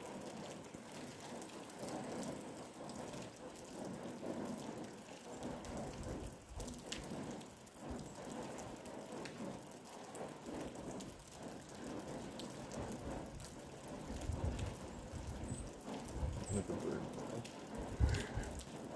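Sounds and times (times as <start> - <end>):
rain pattering: 0.0 - 18.9.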